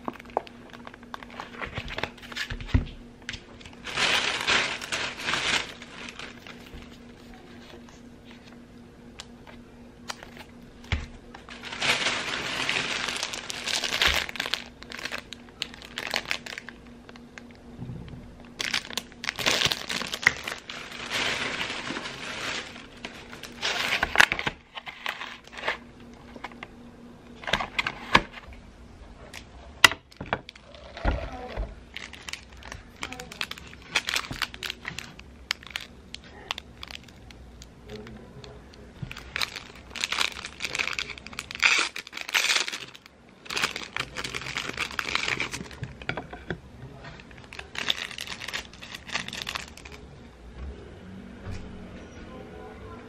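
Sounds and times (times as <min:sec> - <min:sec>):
plastic packaging crinkling: 0:00.0 - 0:02.7, 0:03.3 - 0:08.5, 0:10.0 - 0:17.6, 0:18.4 - 0:26.6, 0:29.4 - 0:50.0.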